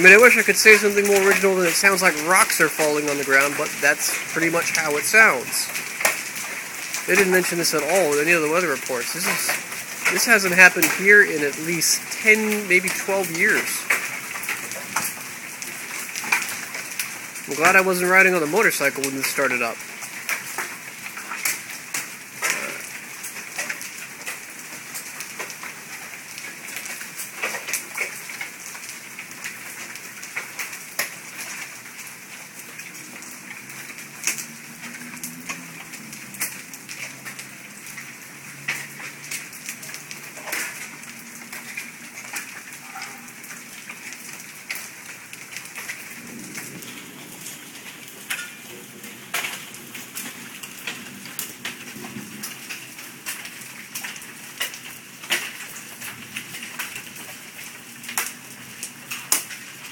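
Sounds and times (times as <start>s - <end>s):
hailstones cracking on roofs: 0.0s - 59.9s
rain hiss: 0.0s - 59.9s.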